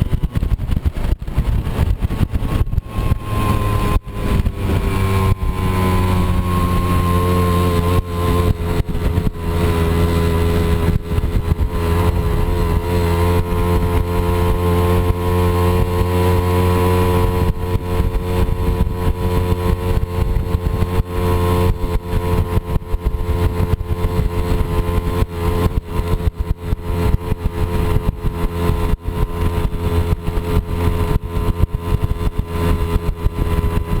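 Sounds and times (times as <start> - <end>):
scooter engine running: 0.0 - 34.0.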